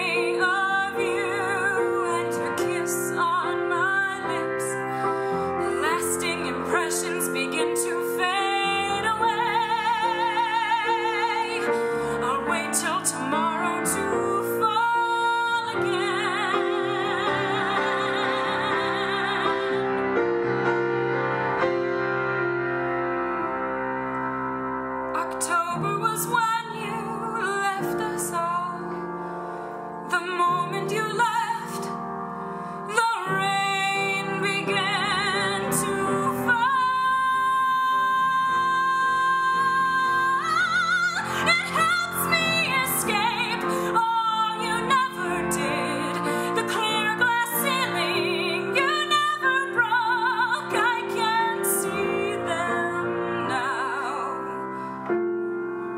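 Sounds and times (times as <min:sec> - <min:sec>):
woman singing slow song: 0:00.0 - 0:04.8, 0:05.5 - 0:19.8, 0:25.2 - 0:28.9, 0:30.0 - 0:32.0, 0:32.9 - 0:54.9
piano accompaniment: 0:00.0 - 0:55.9.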